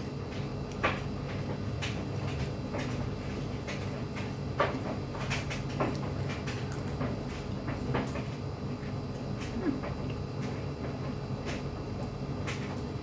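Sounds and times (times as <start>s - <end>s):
steady low hum: 0.0s - 13.0s
chewing clicks and smacks: 0.3s - 13.0s.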